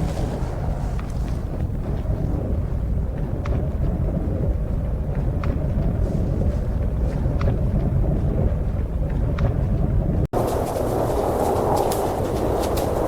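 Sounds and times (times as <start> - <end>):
blizzard wind roaring: 0.0 - 13.0.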